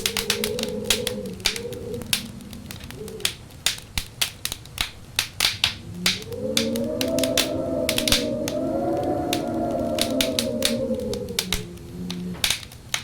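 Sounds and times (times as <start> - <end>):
howling wind: 0.0 - 13.0
wood fire crackling and popping: 0.0 - 13.0.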